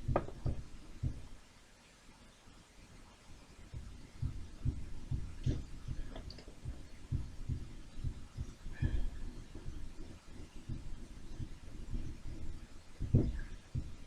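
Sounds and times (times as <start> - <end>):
soft low thumps: 0.0 - 1.4, 3.7 - 14.0.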